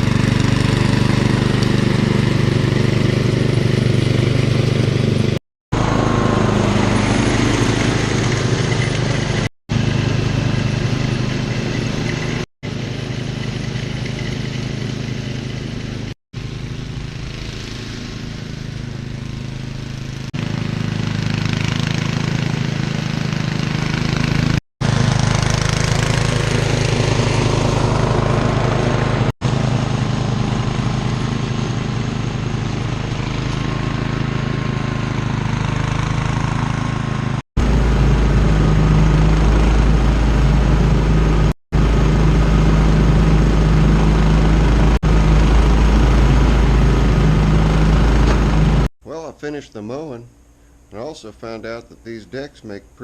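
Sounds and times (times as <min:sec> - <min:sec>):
riding lawn mower engine: 0:00.0 - 0:52.4.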